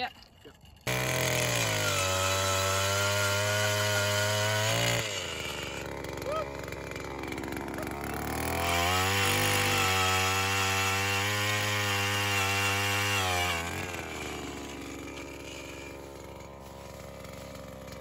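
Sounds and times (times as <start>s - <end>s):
power ice auger drilling: 0.0s - 18.0s.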